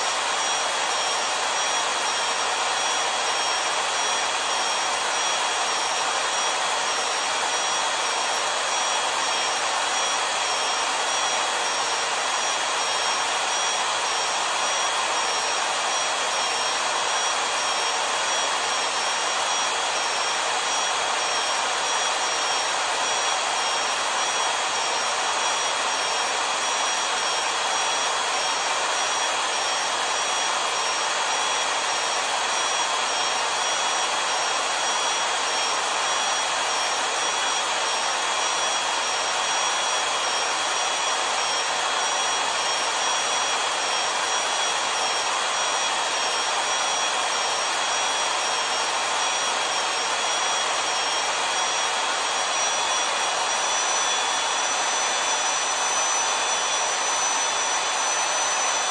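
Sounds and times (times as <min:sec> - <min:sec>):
valve seat cutter whining: 0:00.0 - 0:58.9.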